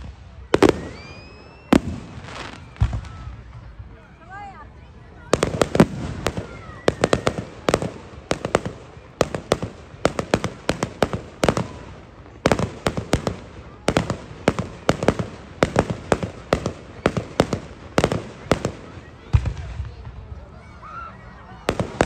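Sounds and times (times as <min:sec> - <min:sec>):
fireworks bangs: 0:00.0 - 0:04.5, 0:05.2 - 0:20.5, 0:21.4 - 0:22.0.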